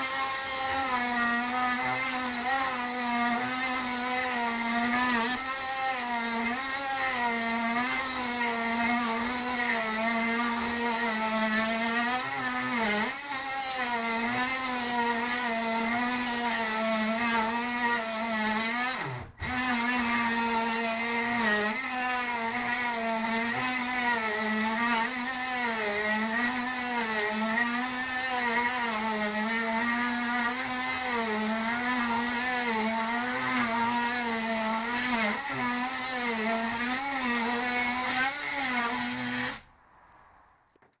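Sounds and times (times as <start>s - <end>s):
oscillating multi-tool cutting wood: 0.0s - 39.7s.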